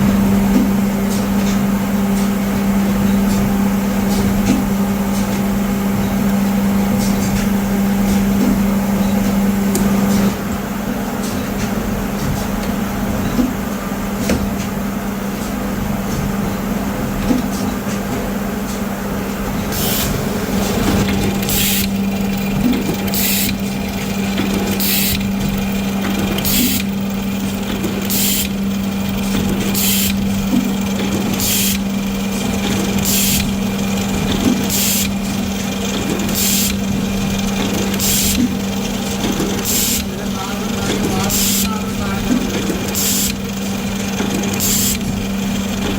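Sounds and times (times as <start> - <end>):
machinery humming: 0.0 - 45.9.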